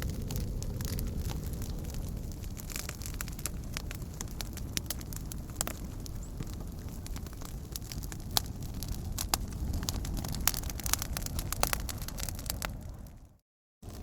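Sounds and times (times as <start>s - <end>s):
crackles and pops of burning wood: 0.0s - 14.0s
low rumble of flames: 0.0s - 14.0s.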